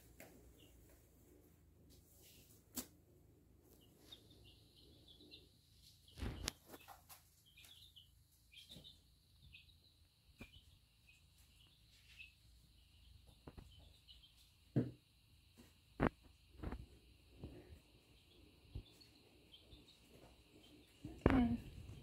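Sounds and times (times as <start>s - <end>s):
baby chicks peeping: 0.0s - 1.4s, 2.2s - 22.0s.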